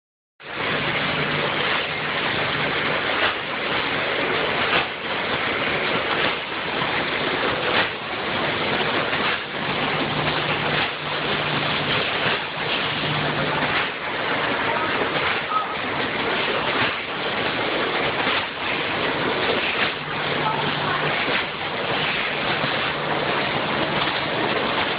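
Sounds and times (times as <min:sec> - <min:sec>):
packaging machine rushing din: 0:00.4 - 0:24.9.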